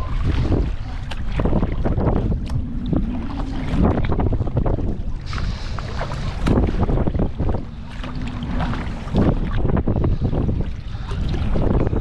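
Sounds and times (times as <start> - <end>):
water splashing and sloshing: 0.0 - 12.0
wind buffeting microphone: 0.0 - 12.0.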